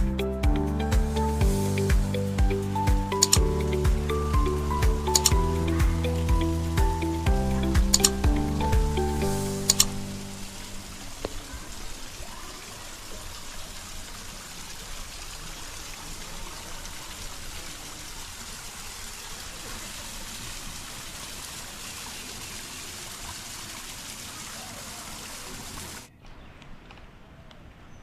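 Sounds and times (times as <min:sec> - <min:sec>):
stream water rushing: 0:00.8 - 0:26.1.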